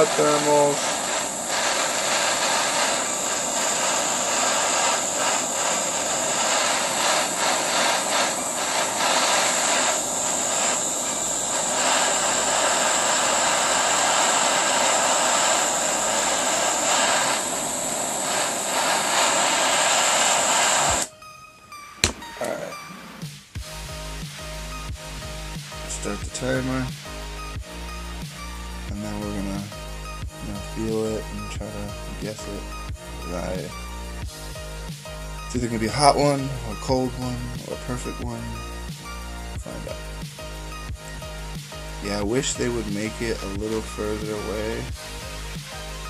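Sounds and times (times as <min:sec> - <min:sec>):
butane torch flame hissing: 0:00.0 - 0:46.0.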